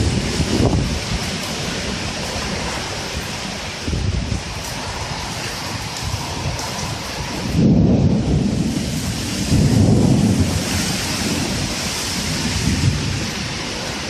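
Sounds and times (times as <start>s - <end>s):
heavy rain falling: 0.0s - 14.0s
thunder rumbling: 0.0s - 14.0s.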